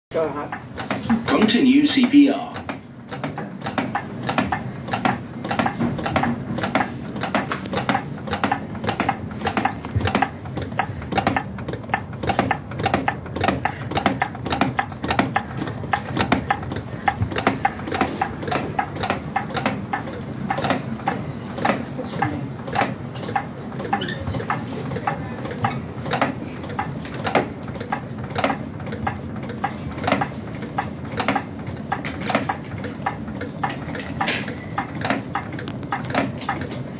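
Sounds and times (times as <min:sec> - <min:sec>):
manikin compression clicks: 0:00.5 - 0:36.9.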